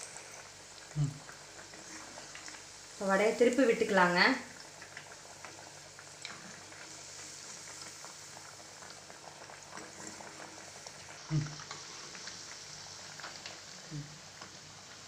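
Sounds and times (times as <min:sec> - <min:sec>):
vadas deep-frying in hot oil: 0:00.0 - 0:15.0.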